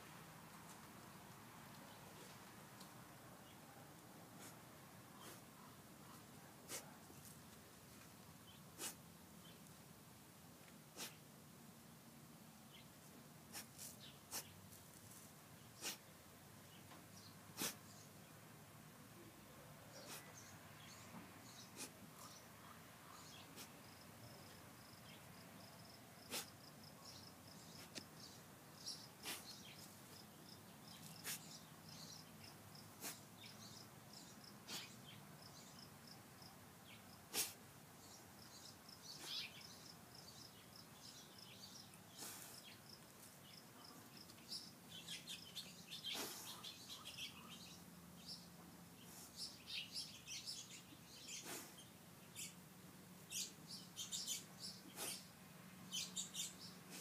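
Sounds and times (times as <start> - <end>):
small birds chirping: 0.6 - 9.8, 12.7 - 18.5, 19.2 - 57.0.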